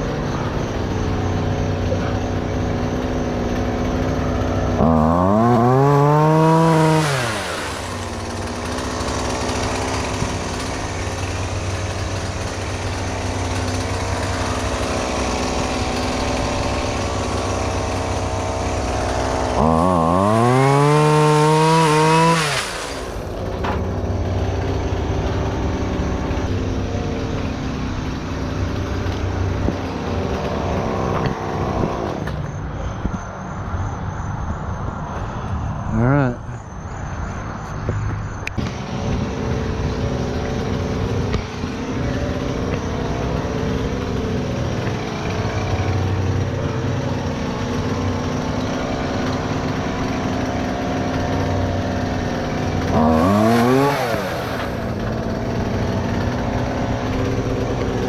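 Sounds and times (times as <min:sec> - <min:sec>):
engine revving: 0:00.0 - 0:32.5, 0:38.5 - 0:58.0.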